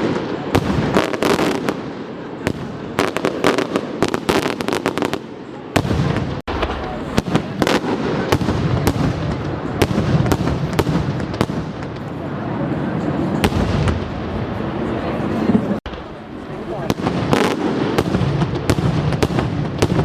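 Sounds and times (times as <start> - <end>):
fireworks cracks and bangs: 0.0 - 20.0.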